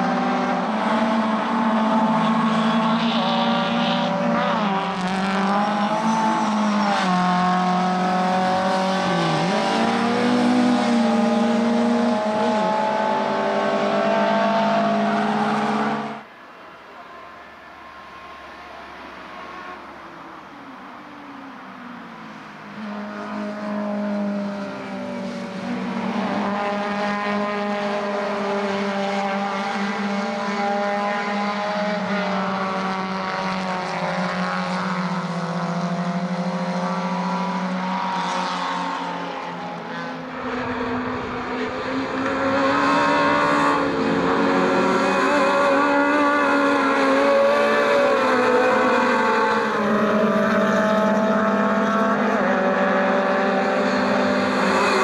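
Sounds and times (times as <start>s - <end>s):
racing car engines revving: 0.0s - 16.7s, 17.5s - 55.0s.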